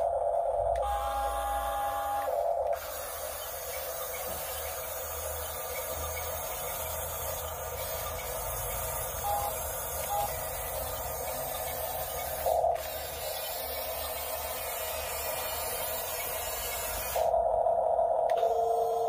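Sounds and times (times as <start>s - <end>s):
toy motor whirring: 0.8s - 17.3s.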